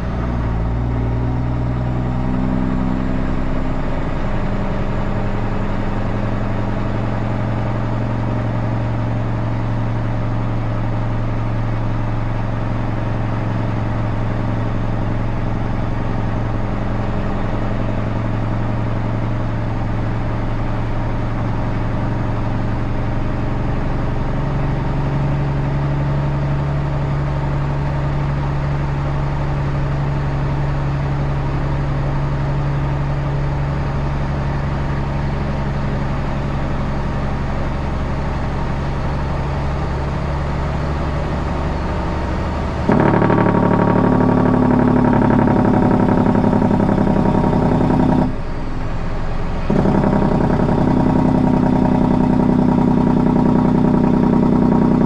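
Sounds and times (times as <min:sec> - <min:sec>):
truck engine droning: 0:00.0 - 0:55.0.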